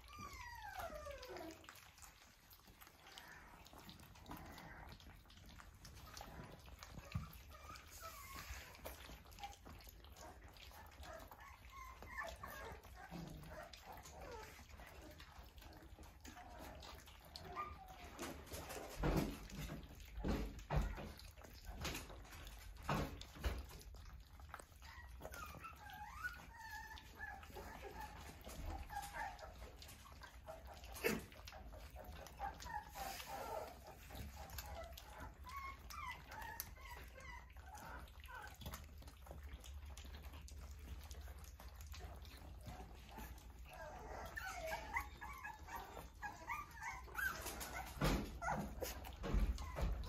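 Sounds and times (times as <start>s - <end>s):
puppies whimpering and squeaking: 0.0s - 50.0s.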